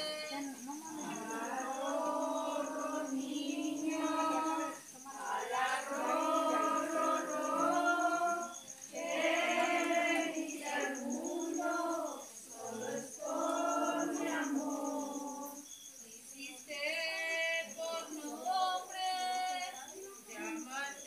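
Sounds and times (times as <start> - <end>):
group of people singing: 0.0 - 15.8, 16.6 - 21.0.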